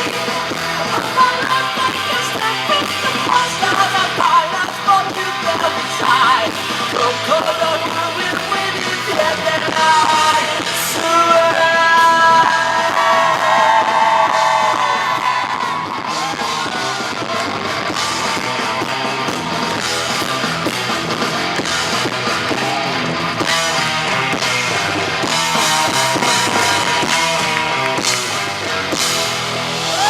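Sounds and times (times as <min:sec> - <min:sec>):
distorted electric guitar: 0:00.0 - 0:30.0
driving drum kit: 0:00.0 - 0:30.0.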